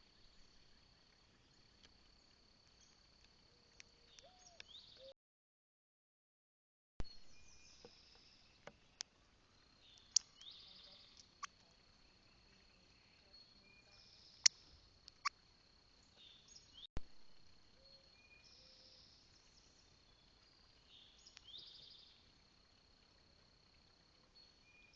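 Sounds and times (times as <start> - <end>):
small birds chirping: 0.0 - 5.1, 7.0 - 16.9, 17.7 - 24.9
thin insect-like whine: 0.0 - 5.1, 7.1 - 24.9.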